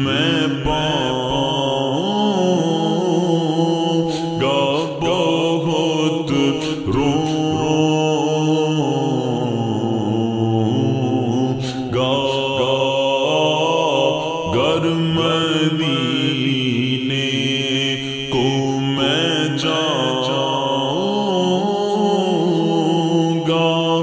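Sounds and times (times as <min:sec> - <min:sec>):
voices chanting gliding melody: 0:00.0 - 0:24.0.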